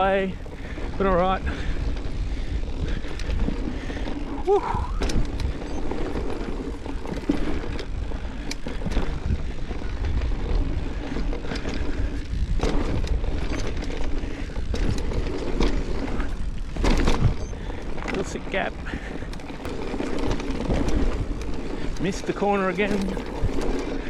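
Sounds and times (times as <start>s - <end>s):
bike rattling: 0.0s - 24.0s
tyres running over dirt: 0.0s - 24.0s
wind rumbling on microphone: 0.0s - 24.0s.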